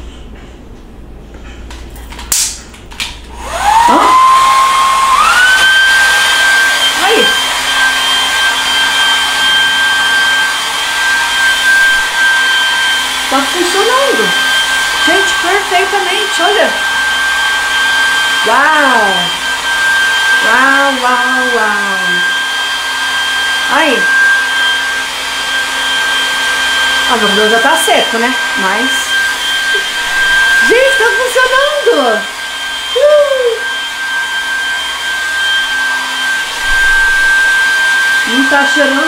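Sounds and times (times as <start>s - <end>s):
hair dryer running: 1.7s - 39.0s.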